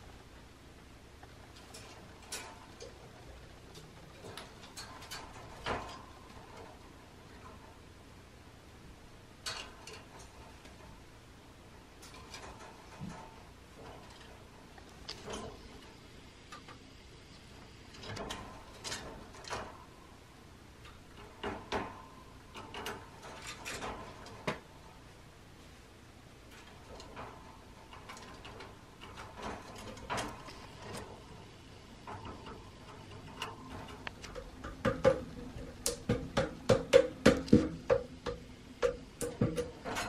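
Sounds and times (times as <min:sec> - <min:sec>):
birds tapping and pecking beaks: 0:01.2 - 0:08.0, 0:09.3 - 0:25.1, 0:26.4 - 0:40.0.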